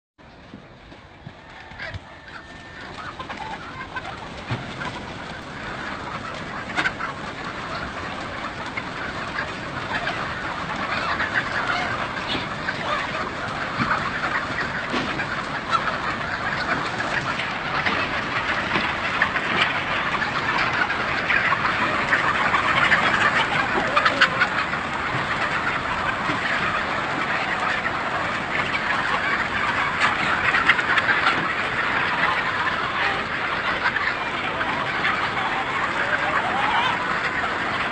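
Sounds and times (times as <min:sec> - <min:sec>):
flock of chickens calling: 0:00.2 - 0:37.9.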